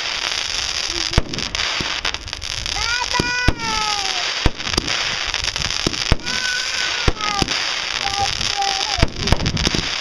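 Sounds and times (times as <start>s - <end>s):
fireworks bangs: 0.0s - 10.0s
fireworks crackling hiss: 0.0s - 10.0s
fireworks whistling: 0.0s - 10.0s.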